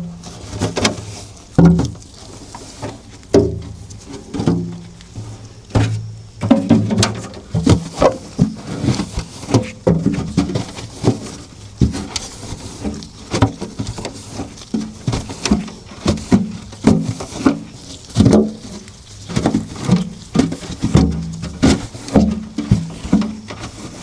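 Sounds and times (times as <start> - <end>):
objects knocking and clattering: 0.0 - 2.2, 3.3 - 24.0
scrubbing: 0.0 - 24.0.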